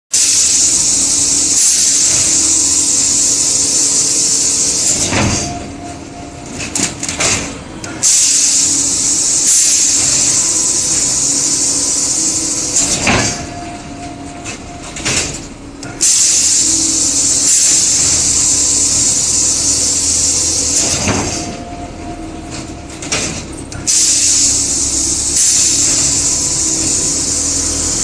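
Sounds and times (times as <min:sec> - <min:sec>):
loud air hiss: 0:00.1 - 0:28.0
machine hum: 0:00.2 - 0:28.0.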